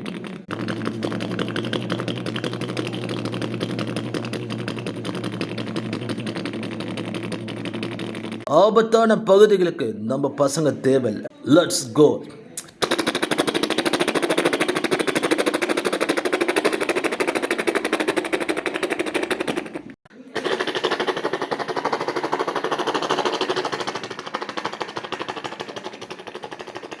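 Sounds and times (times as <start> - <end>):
mouth imitating helicopter: 0.5 - 8.6, 12.7 - 27.0.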